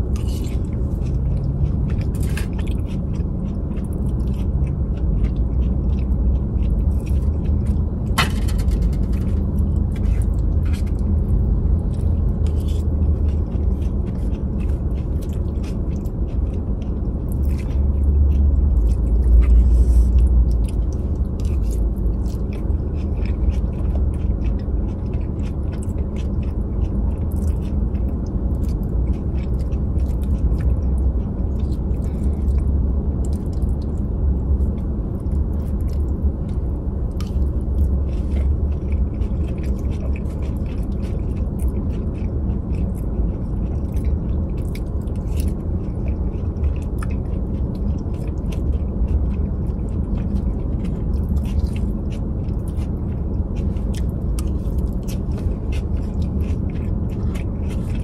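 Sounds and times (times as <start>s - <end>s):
chewing: 0.0s - 58.0s
crunching lettuce: 0.0s - 58.0s
low rumble: 0.0s - 58.0s.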